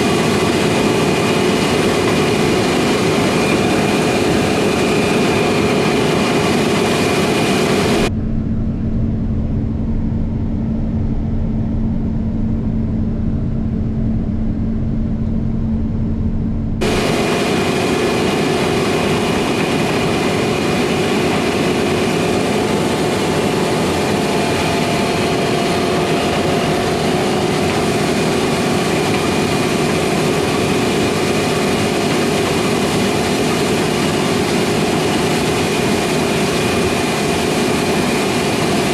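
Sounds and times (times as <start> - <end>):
heavy machinery engines running: 0.0 - 38.9
muffled steady hum: 0.0 - 38.9.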